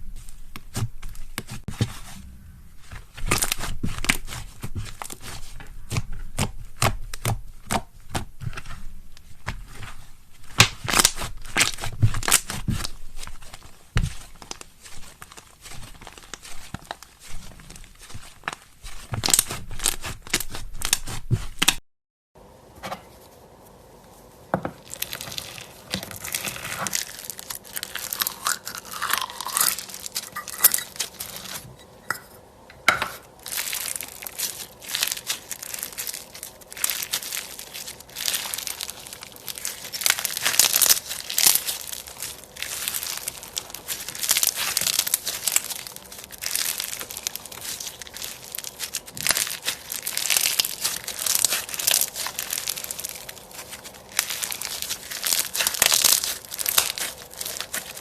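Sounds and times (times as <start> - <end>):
slime crackling and crunching: 0.0 - 21.8, 24.8 - 31.8, 33.3 - 58.0.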